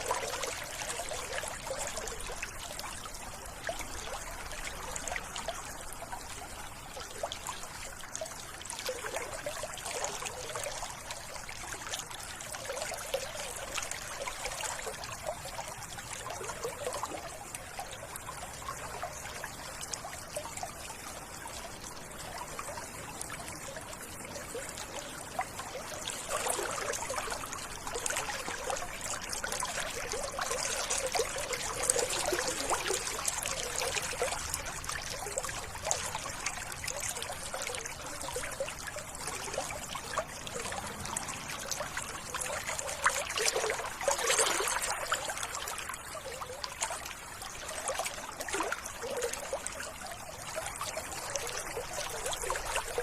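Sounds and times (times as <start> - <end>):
water trickling and babbling: 0.0 - 53.0.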